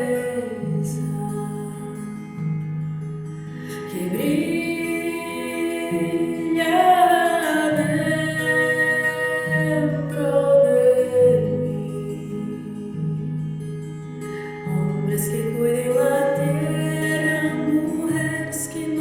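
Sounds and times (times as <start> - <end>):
choir-like layered voices: 0.0 - 2.1, 3.7 - 13.6, 14.6 - 19.0
person singing long gliding notes: 0.0 - 2.2, 3.8 - 13.5, 14.7 - 19.0.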